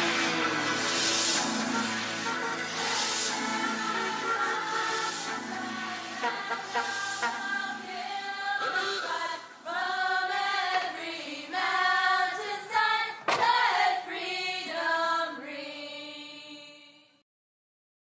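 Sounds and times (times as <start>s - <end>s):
choir singing chords: 0.0s - 17.2s.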